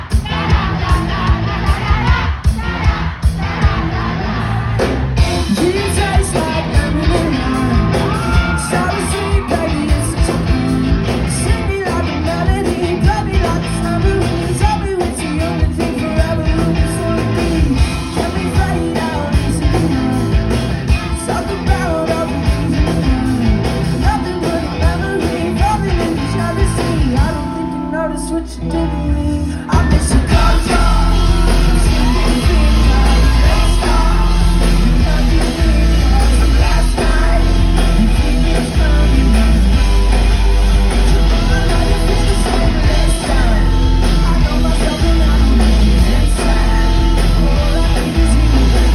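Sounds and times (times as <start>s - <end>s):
heavy bass: 0.0s - 48.9s
lead singer singing: 0.0s - 48.9s
pop-rock band playing live: 0.0s - 48.9s.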